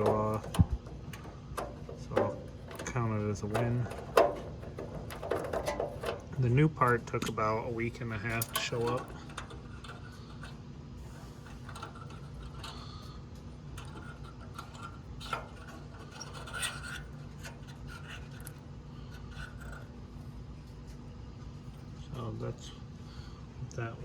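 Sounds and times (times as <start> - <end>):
hands scraping small parts: 0.0 - 21.0.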